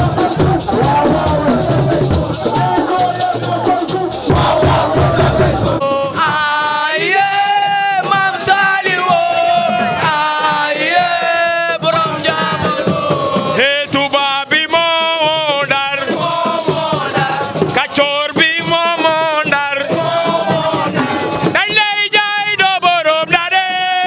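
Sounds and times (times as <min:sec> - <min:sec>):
men singing a chant: 0:00.0 - 0:24.0.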